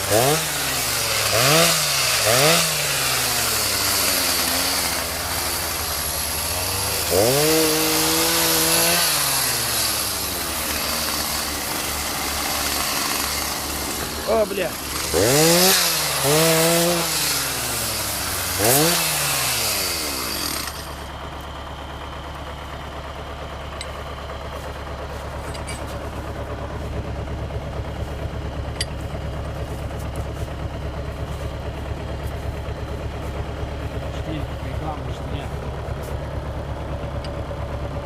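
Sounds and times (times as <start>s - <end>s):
tractor diesel engine revving: 0.0s - 38.0s.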